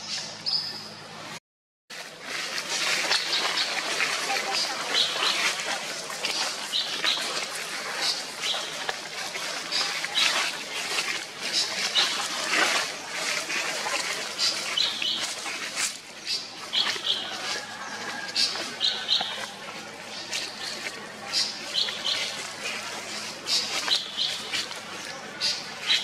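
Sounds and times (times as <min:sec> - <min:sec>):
rustling in dry leaves: 0:01.9 - 0:26.0.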